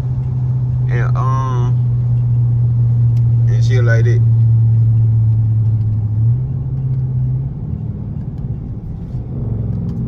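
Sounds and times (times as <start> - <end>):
car exhaust droning: 0.0 - 10.0.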